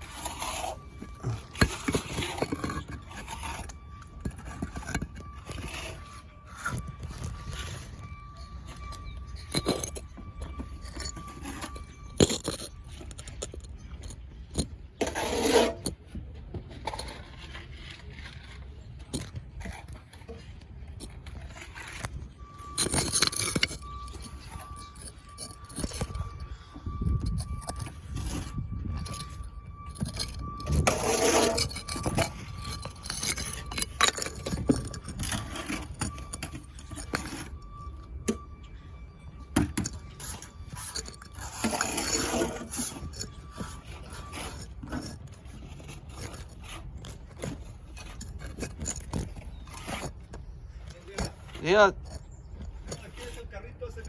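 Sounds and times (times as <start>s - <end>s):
trowel scraping: 0.0s - 54.0s.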